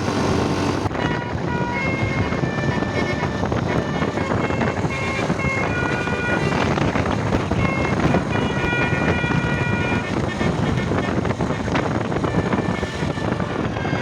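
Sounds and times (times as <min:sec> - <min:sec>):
musical bus horn playing tune: 0:00.0 - 0:14.0
traffic noise: 0:00.0 - 0:14.0
wind: 0:00.0 - 0:14.0.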